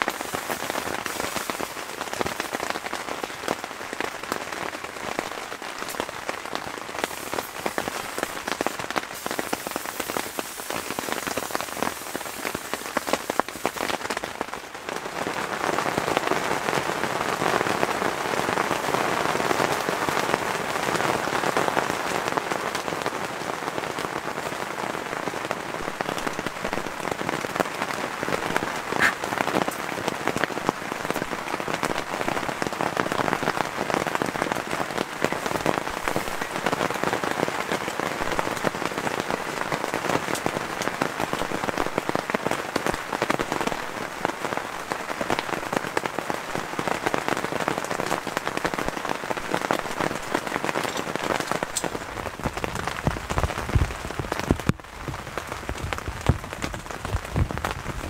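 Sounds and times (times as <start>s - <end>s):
rain pattering on a tent: 0.0s - 58.0s.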